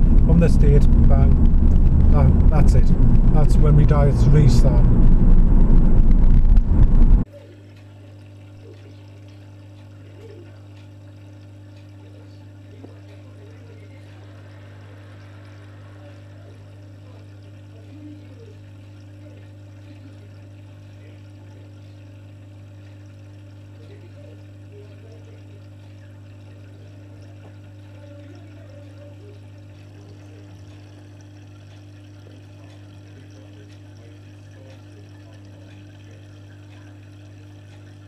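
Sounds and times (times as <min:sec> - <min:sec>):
aquarium filter humming: 0:00.0 - 0:38.0
water trickling and bubbling: 0:00.0 - 0:38.0.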